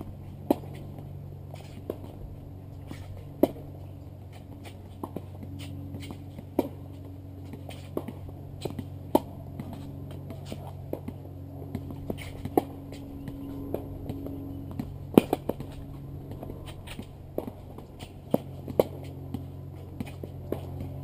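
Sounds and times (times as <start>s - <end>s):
steady low hum: 0.0s - 21.0s
tennis ball struck by rackets: 0.0s - 21.0s.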